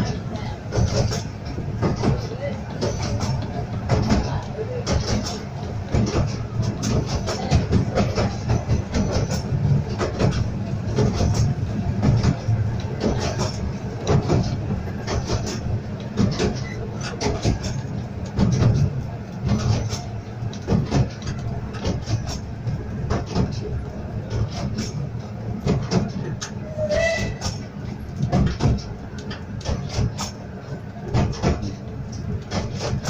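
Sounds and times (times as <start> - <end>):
miniature train rumbling: 0.0 - 33.0
wheels clattering over rails: 0.0 - 33.0.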